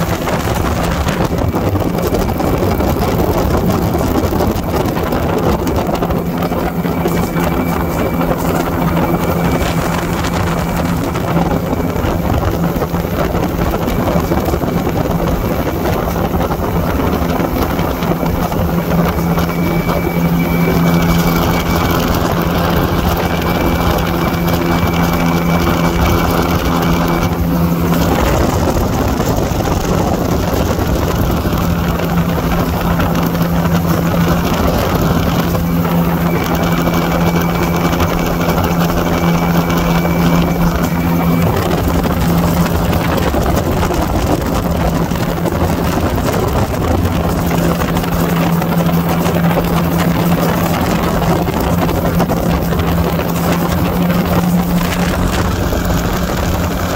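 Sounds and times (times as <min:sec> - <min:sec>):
aircraft engine droning: 0:00.0 - 0:56.9
rush of air: 0:00.0 - 0:56.9.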